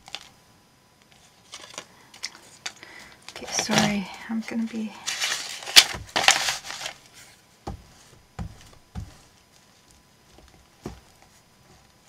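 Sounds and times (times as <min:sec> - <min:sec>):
paper rustling: 0:01.1 - 0:12.0.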